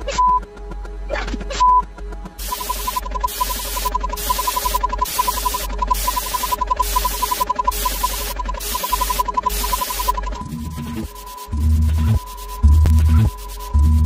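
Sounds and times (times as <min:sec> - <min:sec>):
low hum: 0:01.7 - 0:14.0
loud hissing static: 0:02.4 - 0:14.0
rapid electronic beeps: 0:02.4 - 0:14.0.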